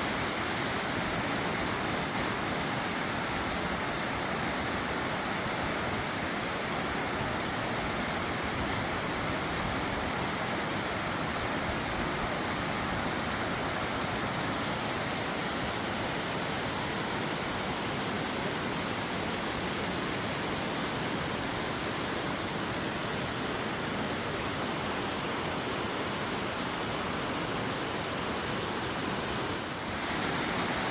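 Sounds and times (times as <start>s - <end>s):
rush of flowing water: 0.0s - 30.9s.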